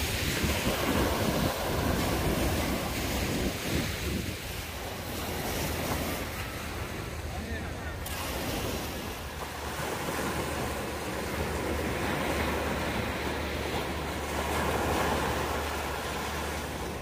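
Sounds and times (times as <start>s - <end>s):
small sea waves breaking on sand: 0.0s - 17.0s.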